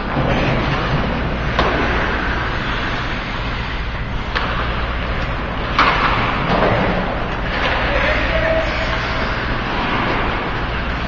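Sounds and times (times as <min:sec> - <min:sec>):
low rink hum: 0:00.0 - 0:11.0.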